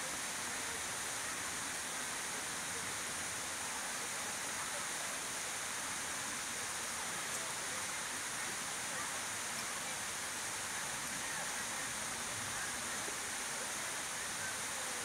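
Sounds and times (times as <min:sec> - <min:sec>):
steady high-pitched hiss: 0:00.0 - 0:15.0.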